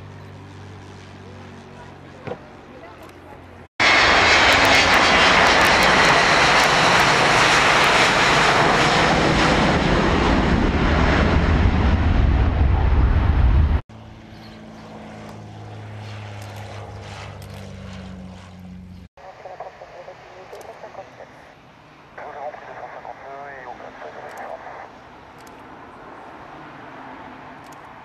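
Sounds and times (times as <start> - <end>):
jet engines roaring: 0.0 - 28.0
piston engines and propellers humming: 0.0 - 28.0.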